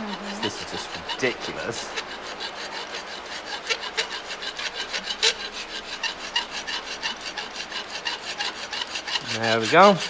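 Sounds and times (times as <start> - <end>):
hand file rasping on metal: 0.0 - 10.0.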